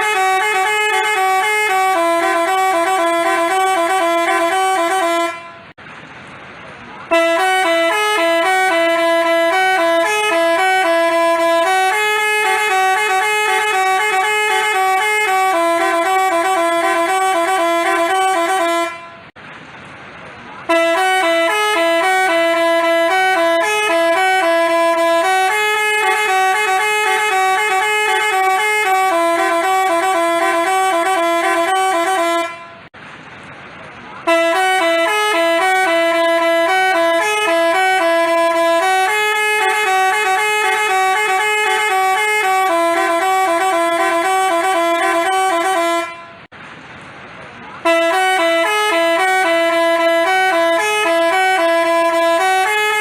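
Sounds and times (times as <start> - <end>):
multi-tone bus horn tune: 0.0 - 5.8, 7.0 - 19.4, 20.6 - 33.0, 34.2 - 46.5, 47.8 - 53.0.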